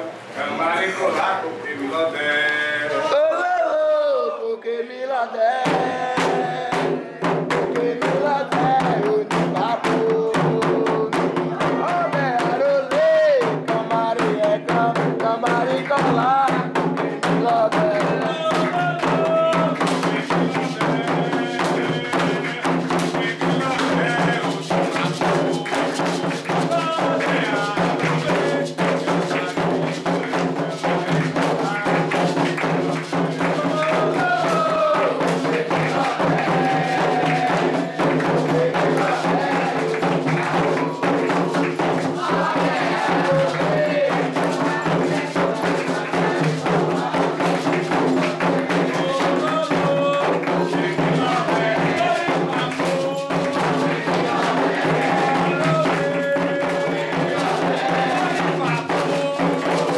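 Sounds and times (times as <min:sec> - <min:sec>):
voices singing a chant: 0:02.2 - 0:59.9
hand drums: 0:05.5 - 0:59.9.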